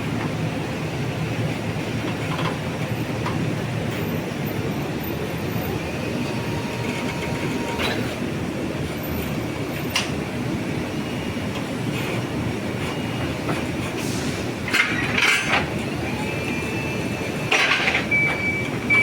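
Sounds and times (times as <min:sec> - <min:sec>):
reach truck mechanical rumble: 0:00.0 - 0:19.0.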